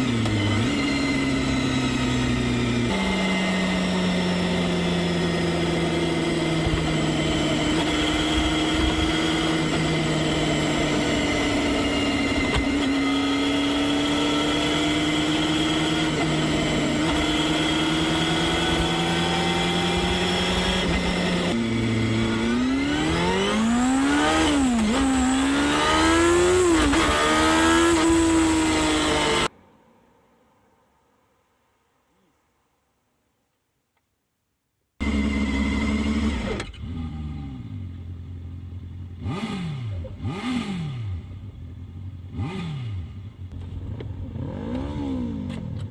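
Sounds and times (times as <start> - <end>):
motorcycle engine revving: 0.0 - 29.5, 35.0 - 45.9.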